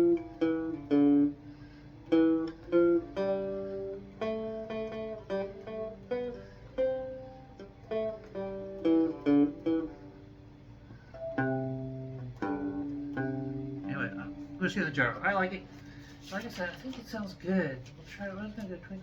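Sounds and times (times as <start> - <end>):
amplified guitar single-note melody: 0.0 - 16.1.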